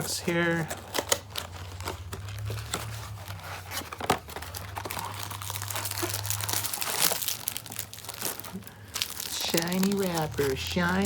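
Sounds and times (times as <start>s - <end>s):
cardboard box tearing: 0.0s - 11.0s
packaging crinkling: 0.0s - 11.0s.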